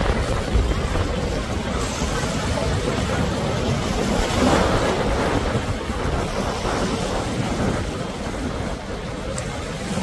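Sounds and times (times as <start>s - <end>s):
rushing water from boat wake: 0.0s - 10.0s
wind buffeting microphone: 0.0s - 10.0s.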